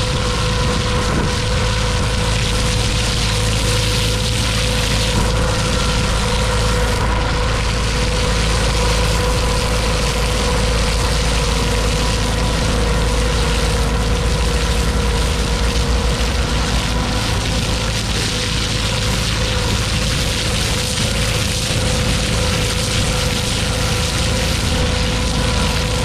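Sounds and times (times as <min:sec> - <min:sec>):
engine and pump running: 0:00.0 - 0:26.0
slurry jetting from hose nozzle: 0:00.0 - 0:26.0.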